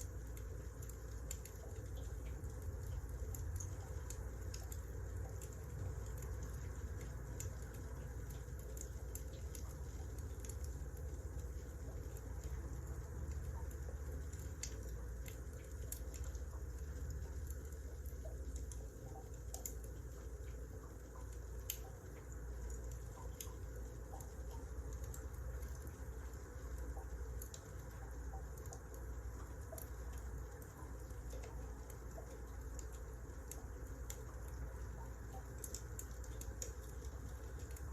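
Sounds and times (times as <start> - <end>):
low steady rumble: 0.0 - 37.9
wood fire crackling: 0.0 - 37.9.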